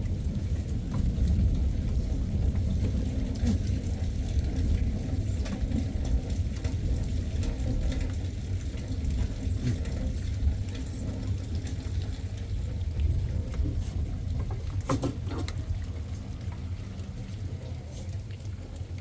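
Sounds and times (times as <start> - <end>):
heavy rain falling: 0.0 - 19.0
raindrops ticking: 0.0 - 19.0.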